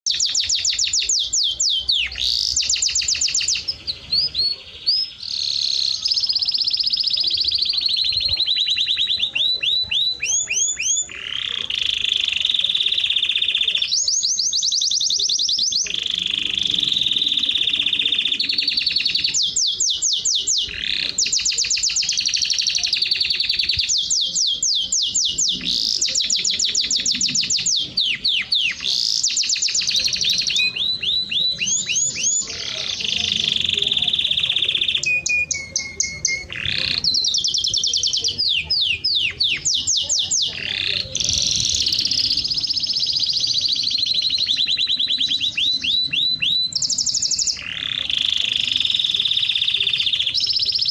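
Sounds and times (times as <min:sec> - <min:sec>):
canary singing rapid trills: 0:00.0 - 0:50.9.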